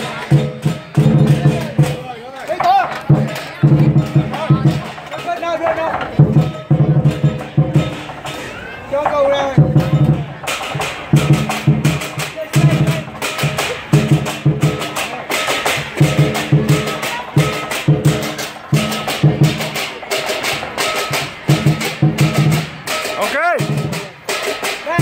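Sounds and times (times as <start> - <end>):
cymbals clashing: 0.0 - 25.0
large drum beating: 0.0 - 25.0.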